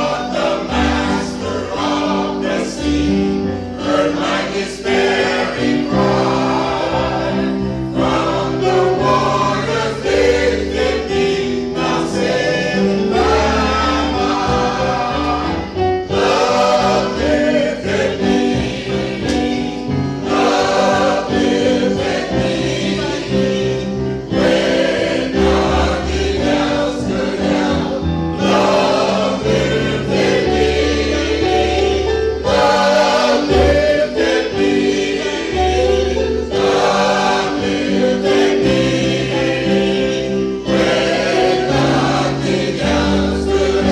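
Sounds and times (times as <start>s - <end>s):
choir singing a hymn: 0.0s - 43.9s
instrumental accompaniment with bass: 0.0s - 43.9s.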